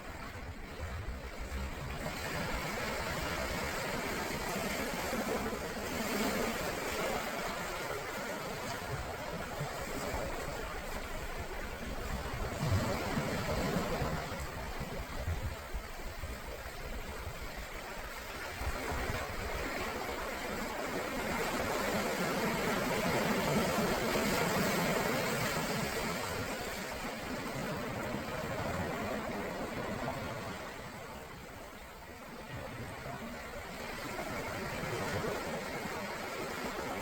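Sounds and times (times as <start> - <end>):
sea waves breaking on shore: 0.0 - 37.0.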